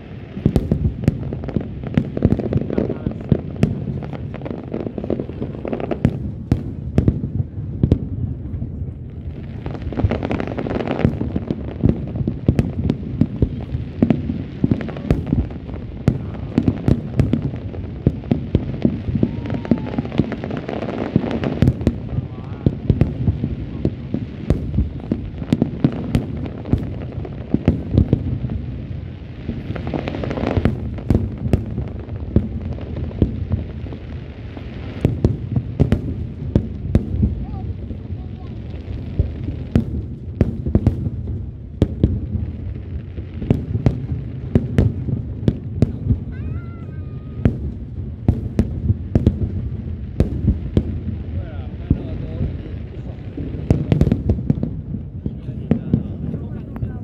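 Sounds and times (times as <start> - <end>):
fireworks booms and cracks: 0.0 - 57.0.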